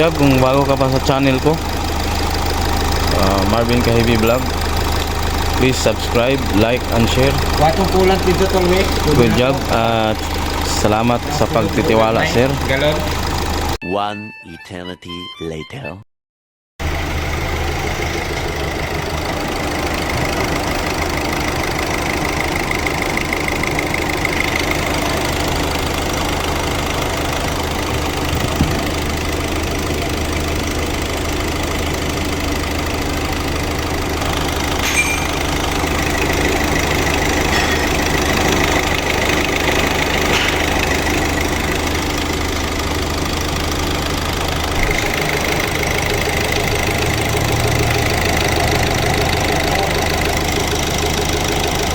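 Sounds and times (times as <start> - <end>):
diesel engine idling: 0.0 - 13.8, 16.8 - 51.9.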